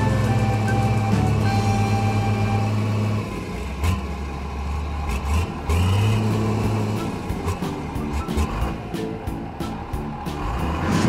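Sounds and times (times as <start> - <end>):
truck engine hum: 0.0 - 11.0.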